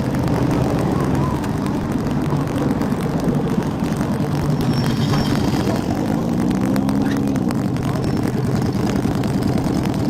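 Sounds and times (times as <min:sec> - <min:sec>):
motorcycle engine running: 0:00.0 - 0:10.0
road and wind noise: 0:00.0 - 0:10.0.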